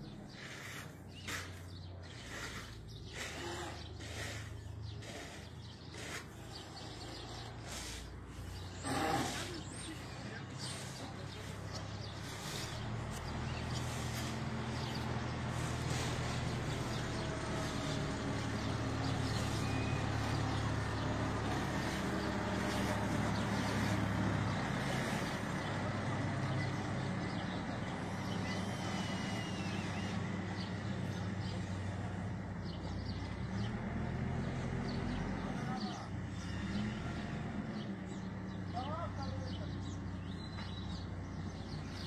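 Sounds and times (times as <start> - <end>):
diesel engine idling: 0.0 - 40.3.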